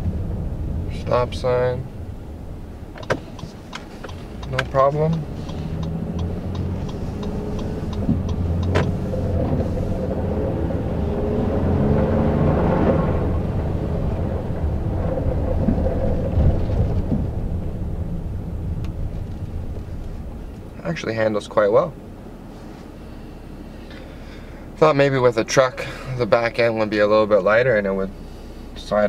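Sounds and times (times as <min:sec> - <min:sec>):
road noise rumble: 0:00.0 - 0:29.0
truck engine: 0:00.0 - 0:29.0.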